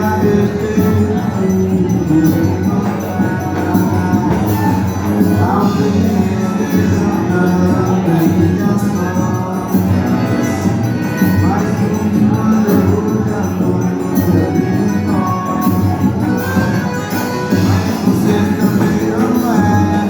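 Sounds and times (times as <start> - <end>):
upbeat band dance music: 0.0 - 20.0.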